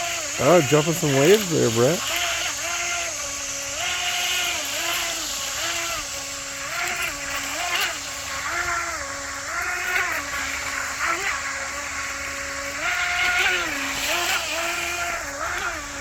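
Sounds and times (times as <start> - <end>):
electric motor whining: 0.0 - 16.0
water hissing: 0.0 - 16.0.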